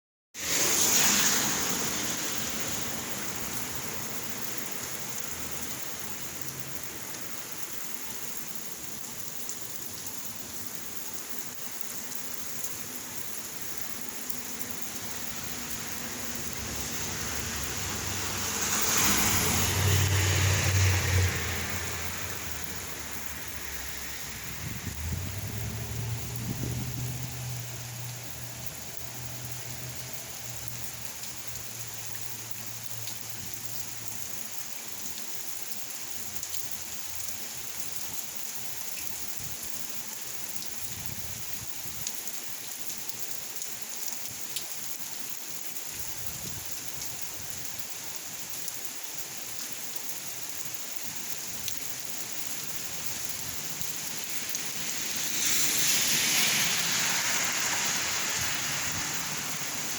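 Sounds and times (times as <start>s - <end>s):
steady rain falling: 0.4s - 59.9s.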